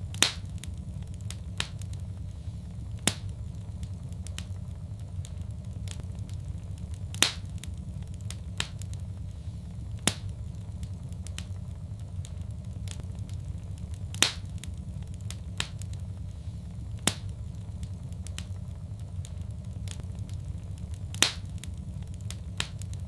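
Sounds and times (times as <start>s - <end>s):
fireplace fire crackling: 0.0s - 23.0s
sharp pops of fire: 0.0s - 23.0s.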